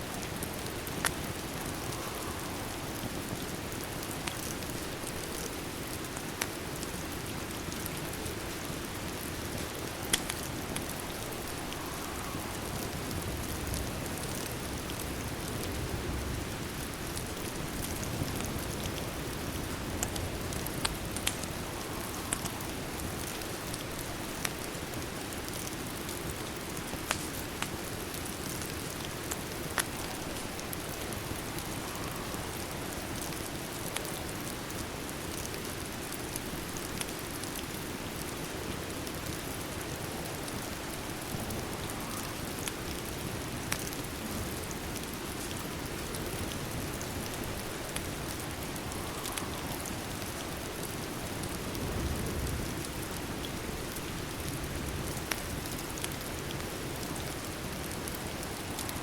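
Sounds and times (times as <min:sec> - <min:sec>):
steady rain: 0:00.0 - 0:59.0
wood fire popping and crackling: 0:00.1 - 0:59.0.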